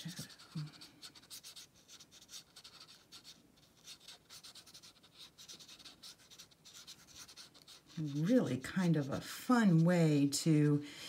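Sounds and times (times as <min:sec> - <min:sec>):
brush pen scratching on paper: 0:00.0 - 0:10.3.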